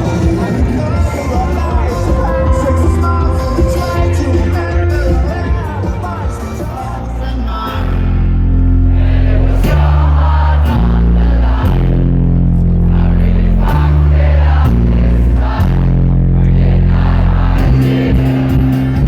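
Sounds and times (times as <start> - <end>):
deep bass line: 0.0 - 19.0.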